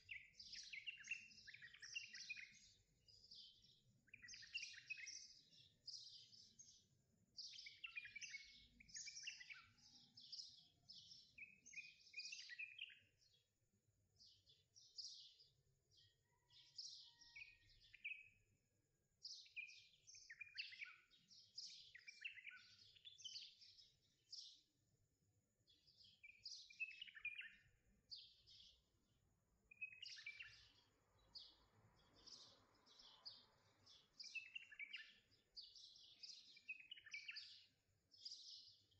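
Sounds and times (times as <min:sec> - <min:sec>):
faint birdsong chirps: 0:00.0 - 0:38.9.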